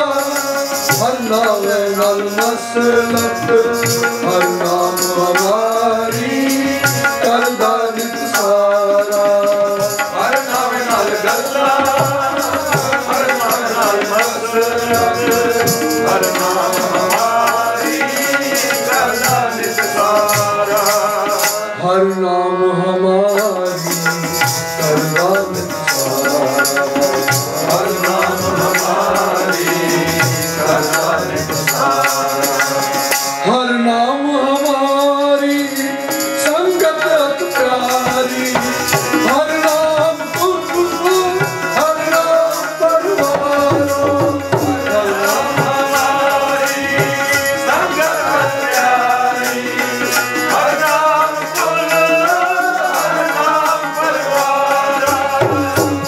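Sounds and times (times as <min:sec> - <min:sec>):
harmonium playing chords: 0:00.0 - 0:56.0.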